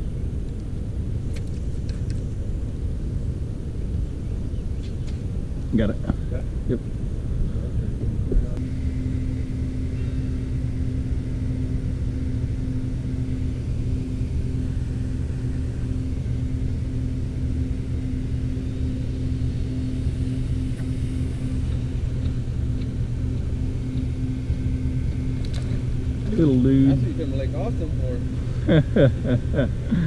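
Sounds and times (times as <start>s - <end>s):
constant tone: 0.0s - 30.0s
boat motor running: 5.7s - 30.0s.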